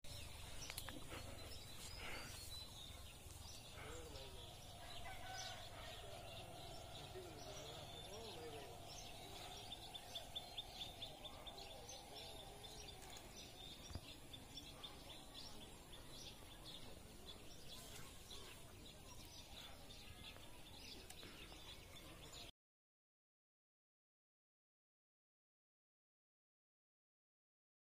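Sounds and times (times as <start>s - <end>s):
faint birds chirping: 0.1s - 22.5s.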